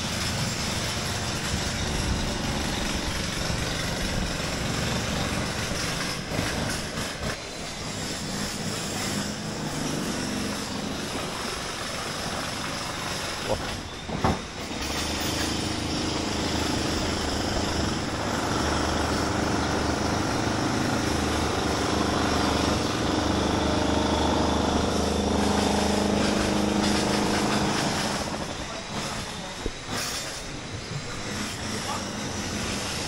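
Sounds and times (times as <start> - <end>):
small engine humming: 0.0 - 33.0.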